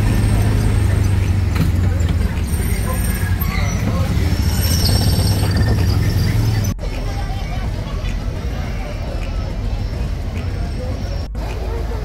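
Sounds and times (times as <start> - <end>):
people talking: 0.0 - 12.0.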